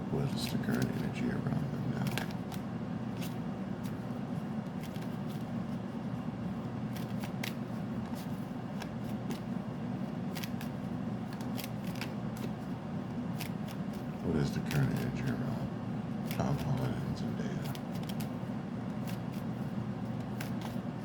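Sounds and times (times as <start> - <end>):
cards being shuffled: 0.4 - 5.8, 6.8 - 15.5, 16.2 - 21.0.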